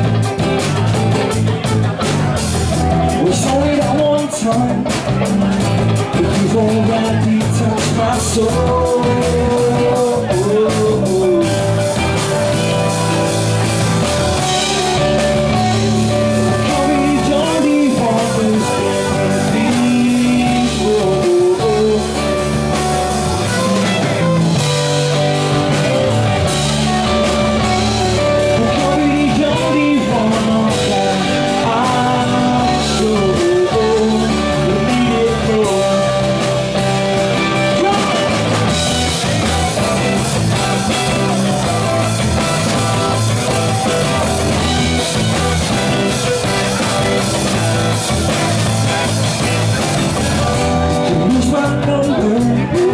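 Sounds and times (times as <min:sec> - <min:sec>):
drum kit: 0:00.0 - 0:52.9
electric bass: 0:00.0 - 0:52.9
guitars: 0:00.0 - 0:52.9
man singing: 0:00.0 - 0:52.9.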